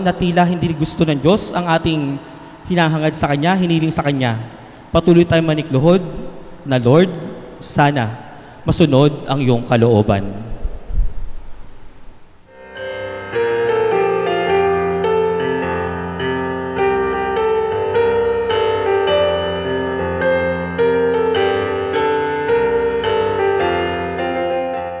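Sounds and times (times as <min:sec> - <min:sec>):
slow piano melody: 0:00.0 - 0:09.8, 0:10.4 - 0:25.0.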